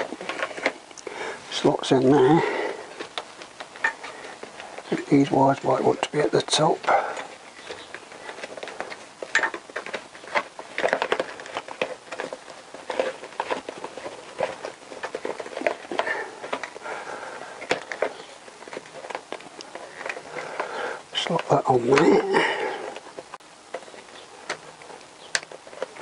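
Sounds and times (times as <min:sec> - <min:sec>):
wires rustling and rubbing: 0:00.0 - 0:26.0.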